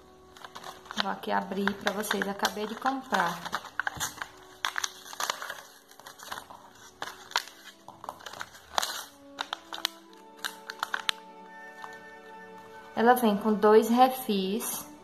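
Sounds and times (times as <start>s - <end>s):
plastic and paper crackling: 0.0s - 13.0s
plastic blister pack tearing: 0.1s - 12.3s.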